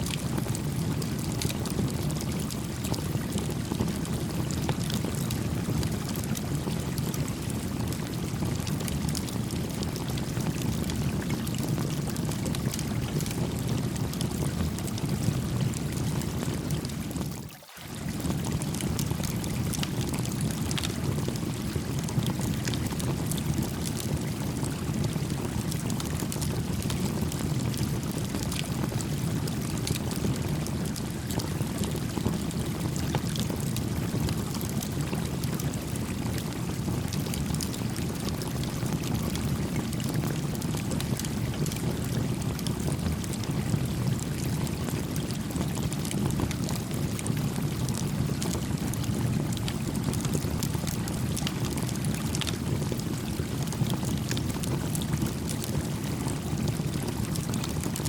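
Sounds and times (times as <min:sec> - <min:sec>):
campfire crackling and popping: 0:00.1 - 0:17.3, 0:18.1 - 0:57.9.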